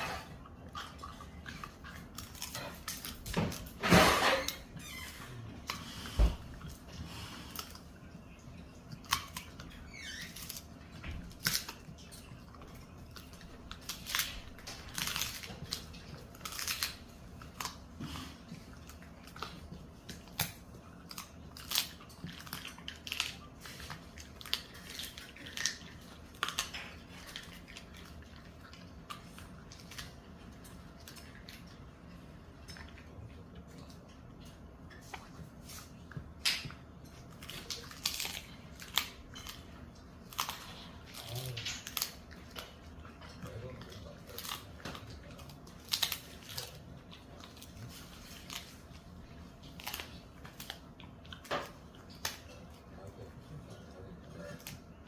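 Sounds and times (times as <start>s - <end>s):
dog crunching a treat: 0.0s - 55.0s
dog gnawing: 0.0s - 55.0s.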